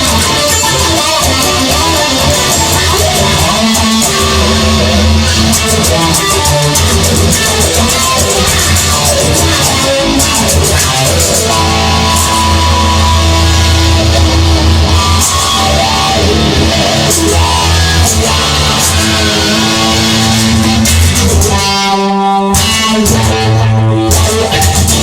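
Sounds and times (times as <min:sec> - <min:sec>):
bass: 0:00.0 - 0:25.0
drums: 0:00.0 - 0:25.0
electric guitar: 0:00.0 - 0:25.0.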